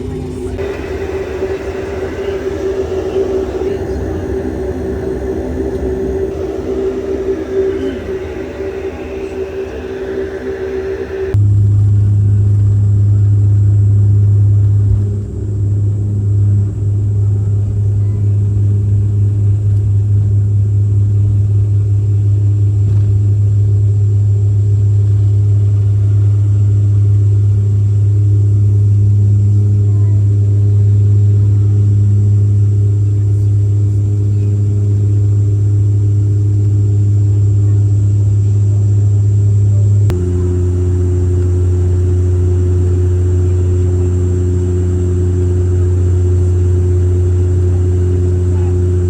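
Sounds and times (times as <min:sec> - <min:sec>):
propeller hum in cabin: 0:00.0 - 0:49.0.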